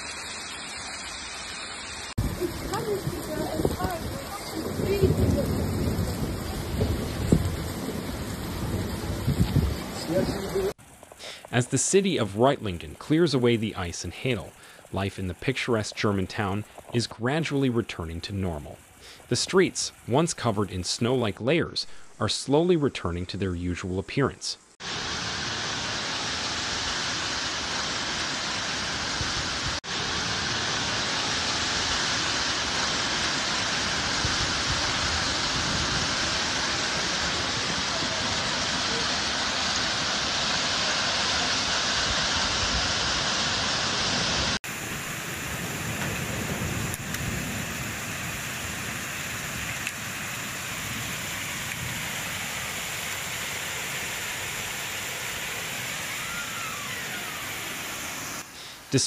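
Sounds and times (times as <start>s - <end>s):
heavy rain downpour: 0.0s - 21.4s, 24.8s - 59.0s.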